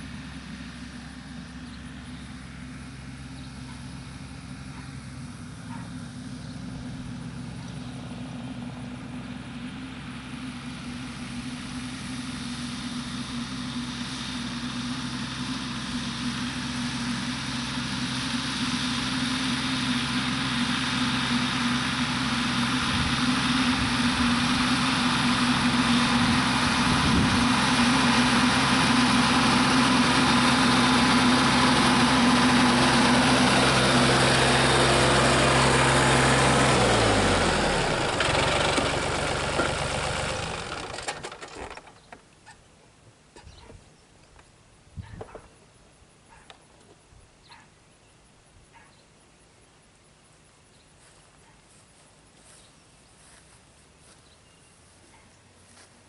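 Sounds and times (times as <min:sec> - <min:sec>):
tractor engine running: 0:00.0 - 0:47.4, 0:50.9 - 0:56.0.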